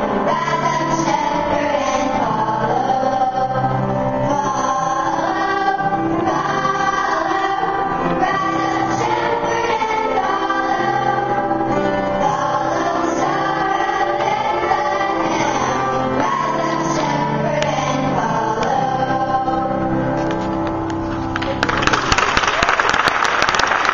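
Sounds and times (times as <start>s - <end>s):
children's choir singing: 0.0s - 20.5s.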